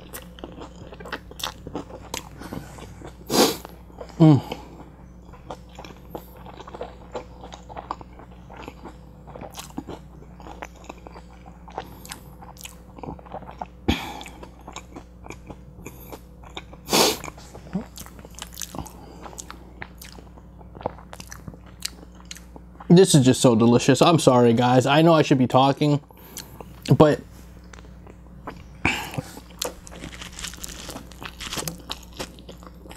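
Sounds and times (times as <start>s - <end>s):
wet chewing mouth sounds: 0.0s - 22.9s, 27.6s - 32.9s.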